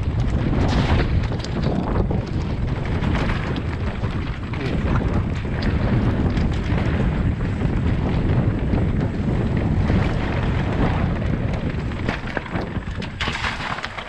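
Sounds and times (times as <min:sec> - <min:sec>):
bike clicks and rattles: 0:00.0 - 0:14.0
bike tyres rolling on gravel: 0:00.0 - 0:14.0
wind buffeting microphone: 0:00.0 - 0:14.0.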